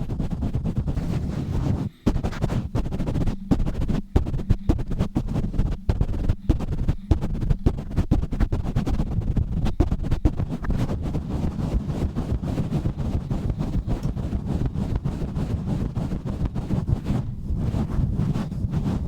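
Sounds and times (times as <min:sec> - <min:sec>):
scratching on microphone: 0:00.0 - 0:19.0.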